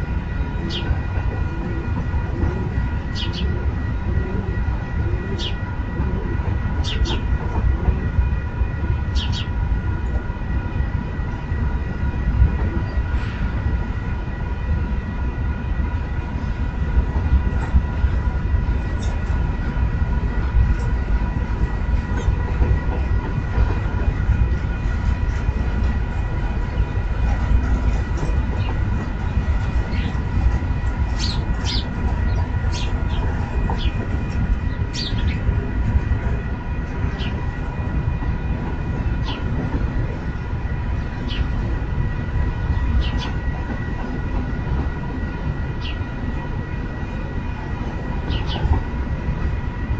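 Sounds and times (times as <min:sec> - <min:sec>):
freight train rumbling past: 0:00.0 - 0:49.9.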